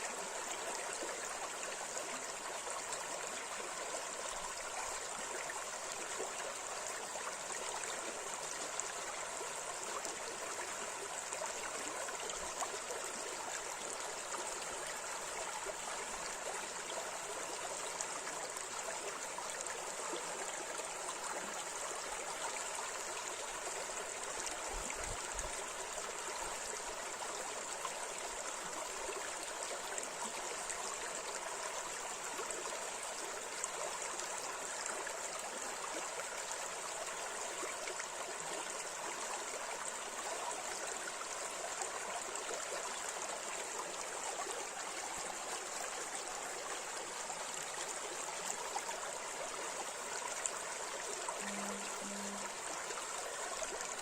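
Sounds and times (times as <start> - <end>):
river water rushing and babbling: 0.0 - 54.0.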